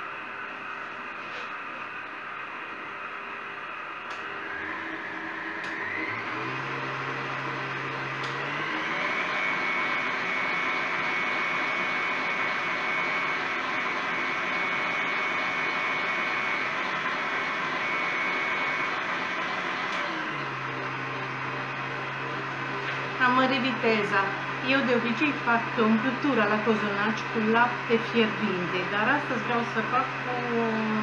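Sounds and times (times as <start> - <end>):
stand mixer motor whine: 0.0 - 31.0.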